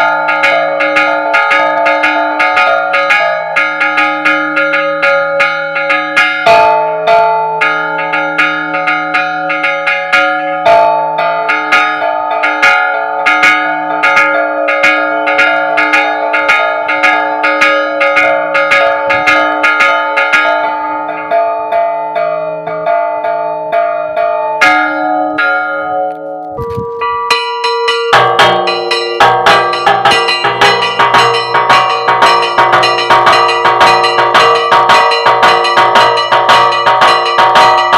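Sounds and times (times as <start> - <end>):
church bells ringing: 0.0 - 37.9.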